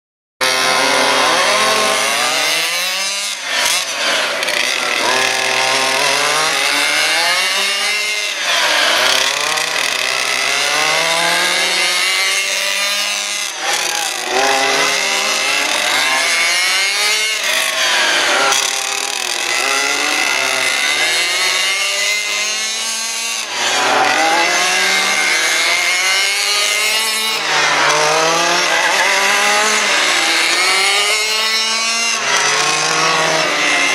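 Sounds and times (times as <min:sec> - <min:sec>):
small racing engines revving: 0:00.4 - 0:33.9.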